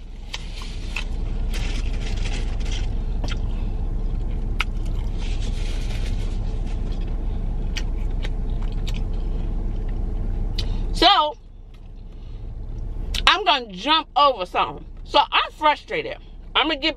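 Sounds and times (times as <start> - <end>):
car running rumble: 0.0 - 16.9.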